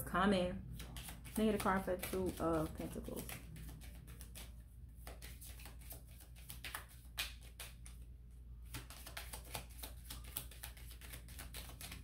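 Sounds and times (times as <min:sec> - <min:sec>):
cards being shuffled: 0:00.8 - 0:08.0, 0:08.6 - 0:12.0.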